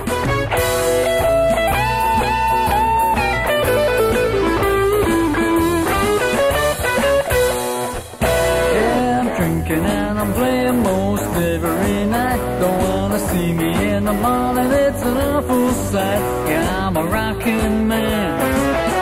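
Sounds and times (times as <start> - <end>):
blues-rock band: 0.0 - 19.0
electric guitar lead with bends: 0.0 - 19.0.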